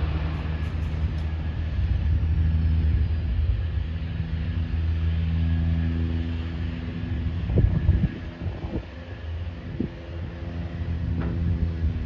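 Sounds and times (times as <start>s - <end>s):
faint high engine whine: 0.0s - 12.0s
jet engines rumbling: 0.0s - 12.0s.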